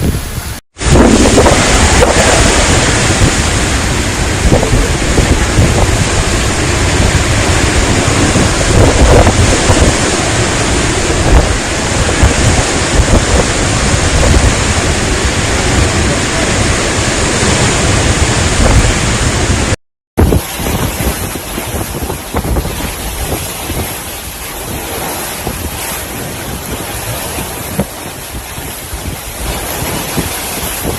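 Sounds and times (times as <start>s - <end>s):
strong wind buffeting microphone: 0.0s - 30.9s.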